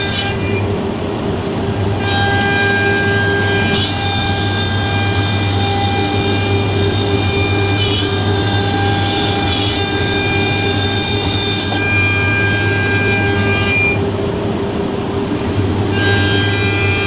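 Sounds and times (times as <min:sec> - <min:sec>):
router spindle whining: 0:01.5 - 0:17.0.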